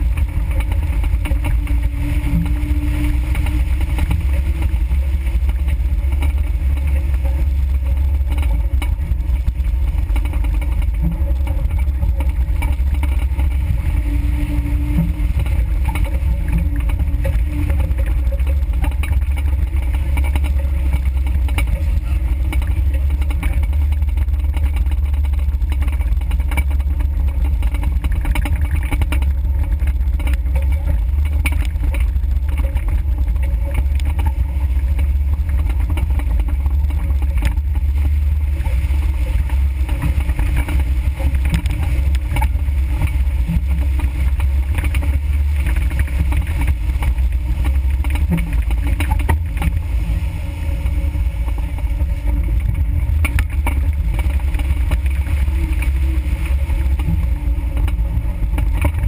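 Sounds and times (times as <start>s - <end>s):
off-road vehicle engine rumbling: 0.0s - 59.0s
vehicle knocks and rattles: 0.0s - 59.0s.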